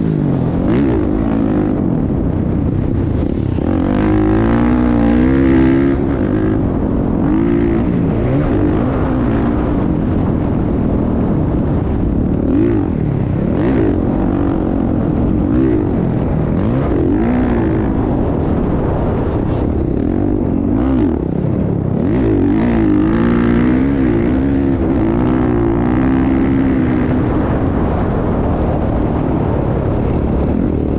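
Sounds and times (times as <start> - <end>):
dirt bike engines revving: 0.0 - 30.9.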